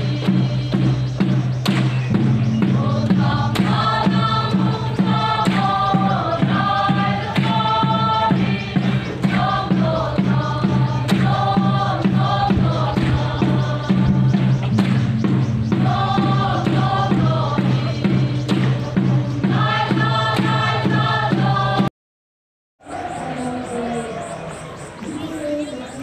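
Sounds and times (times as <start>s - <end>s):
group chanting a song: 0.0s - 21.9s, 22.8s - 25.4s.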